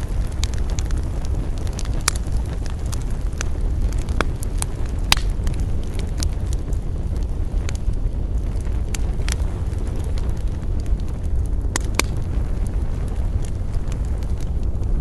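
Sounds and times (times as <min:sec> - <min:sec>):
campfire rumble: 0:00.0 - 0:15.0
wood crackling and popping: 0:00.0 - 0:15.0.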